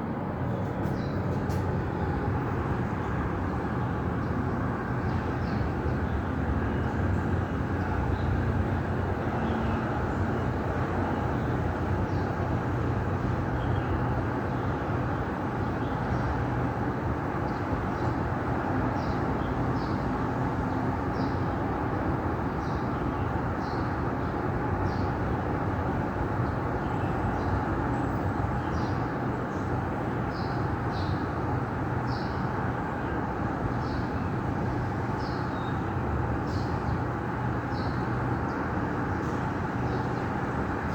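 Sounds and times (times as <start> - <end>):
distant city traffic rumble: 0.0 - 40.9.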